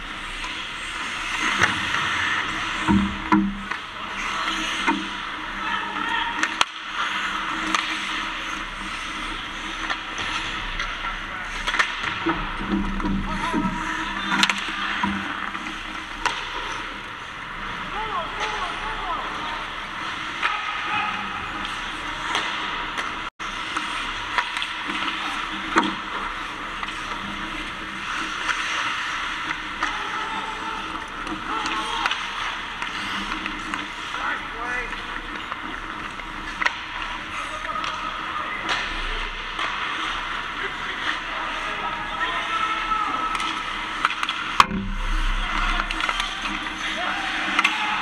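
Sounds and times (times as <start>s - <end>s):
skates scraping on ice: 0.0s - 48.0s
sticks and puck clacking: 0.1s - 48.0s.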